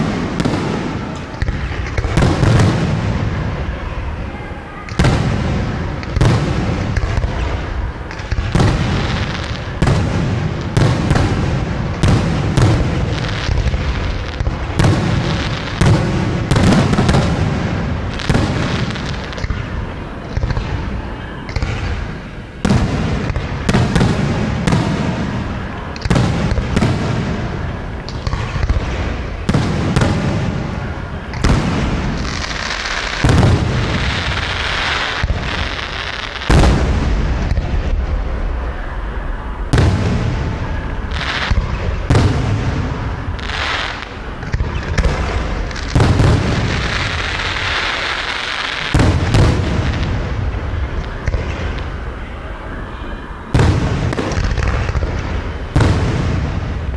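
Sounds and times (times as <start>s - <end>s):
fireworks hissing crackle: 0.0s - 52.6s
fireworks bursting: 0.0s - 56.9s.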